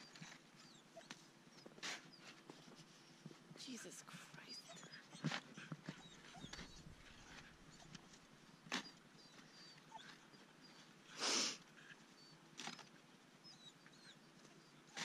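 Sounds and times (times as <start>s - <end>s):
dogs whining: 0.0s - 2.7s, 4.5s - 15.0s.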